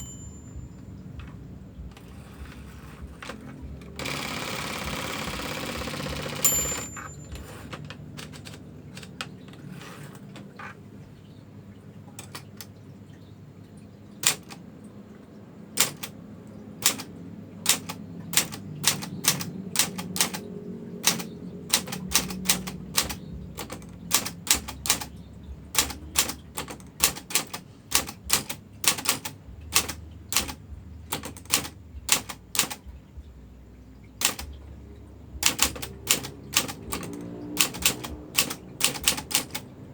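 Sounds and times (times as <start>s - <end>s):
manual typewriter typing: 0.0s - 10.8s, 12.2s - 12.8s, 14.2s - 14.7s, 15.7s - 33.0s, 34.2s - 39.9s.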